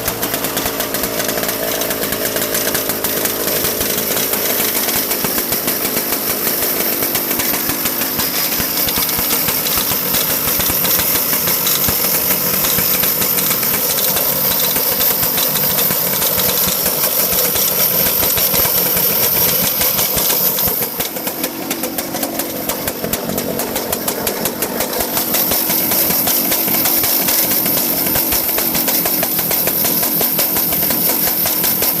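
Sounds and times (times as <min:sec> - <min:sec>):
kart engine buzzing: 0:00.0 - 0:32.0.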